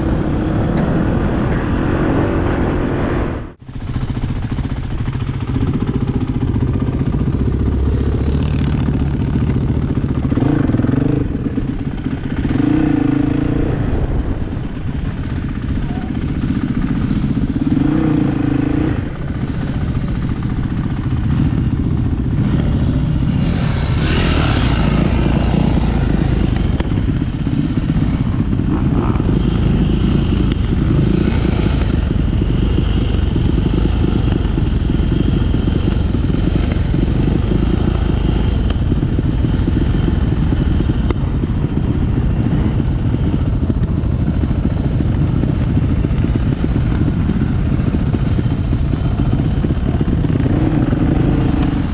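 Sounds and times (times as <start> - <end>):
dirt bike engine running: 0.0 - 51.9
rush of noise: 0.0 - 51.9.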